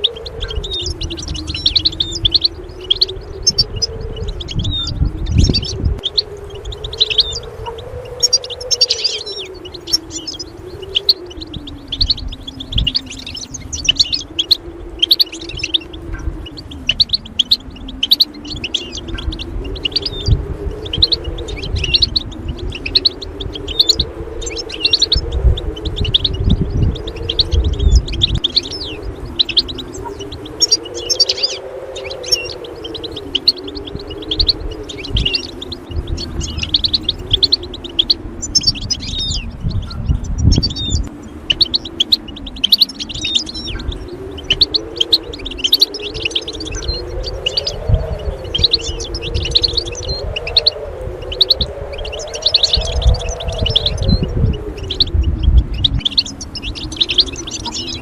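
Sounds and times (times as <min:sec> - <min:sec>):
goldfinch twittering: 0:00.0 - 0:58.0
low wavering musical drone: 0:00.0 - 0:58.0.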